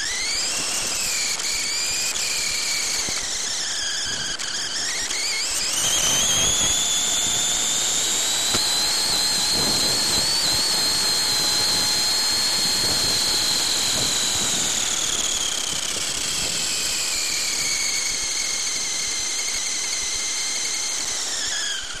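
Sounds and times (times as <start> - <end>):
rc car motor whining: 0.0 - 22.0.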